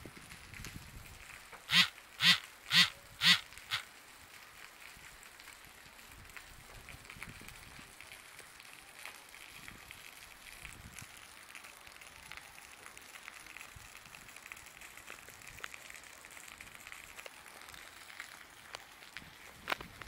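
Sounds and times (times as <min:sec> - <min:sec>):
rain on wet asphalt: 0:00.0 - 0:20.0.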